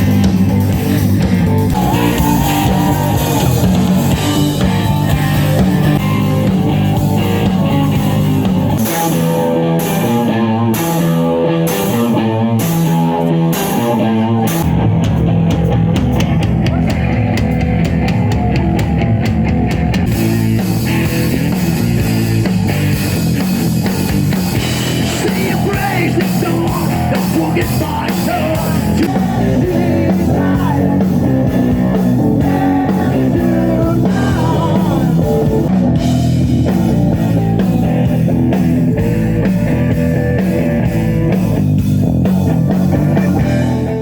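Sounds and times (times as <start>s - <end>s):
loud rock music with singing: 0.0s - 44.0s.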